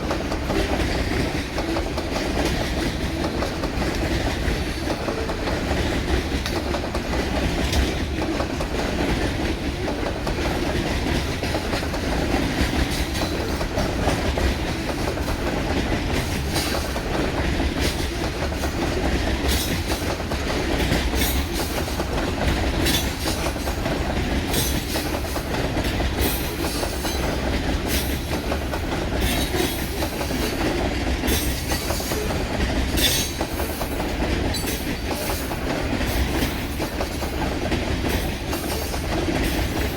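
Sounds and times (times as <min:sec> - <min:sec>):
train cars rumbling past: 0:00.0 - 0:39.9
wheels clicking over rail joints: 0:00.0 - 0:39.9.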